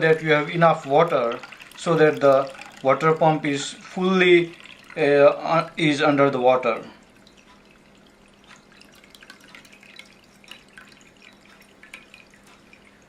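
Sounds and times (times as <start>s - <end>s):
faint steady hum: 0.0s - 13.0s
water dripping in fountain: 0.0s - 13.0s.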